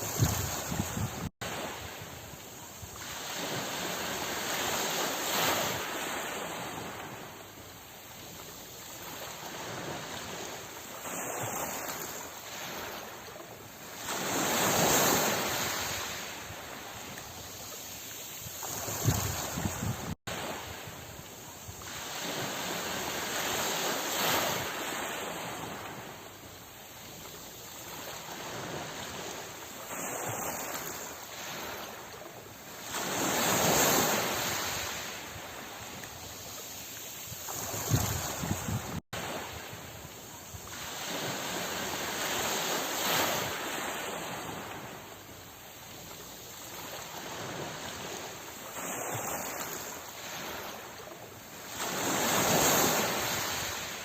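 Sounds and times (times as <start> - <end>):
sea waves breaking ashore: 0.0 - 54.0.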